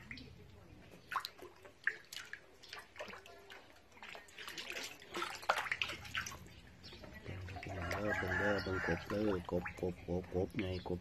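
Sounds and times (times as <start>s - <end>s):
frogs splashing in water: 0.0s - 11.0s
water dripping: 0.0s - 11.0s.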